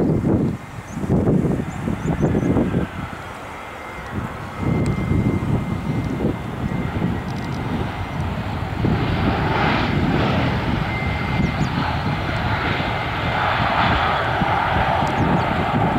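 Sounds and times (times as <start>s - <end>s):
jet engines roaring: 0.0s - 15.9s.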